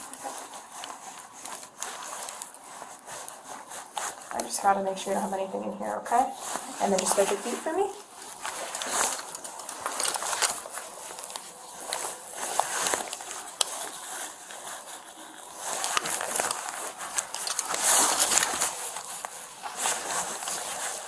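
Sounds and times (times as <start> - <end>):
clothing rustling on microphone: 0.0 - 21.0.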